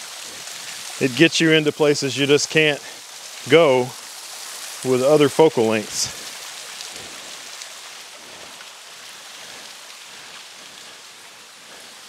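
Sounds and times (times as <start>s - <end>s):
waterfall splashing on rock: 0.0s - 12.0s.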